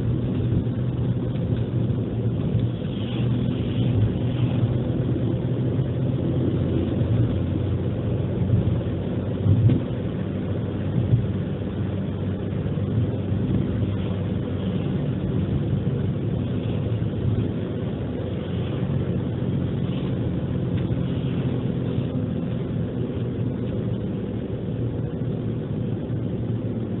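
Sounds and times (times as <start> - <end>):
car engine hum: 0.0 - 27.0
road and tyre noise: 0.0 - 27.0.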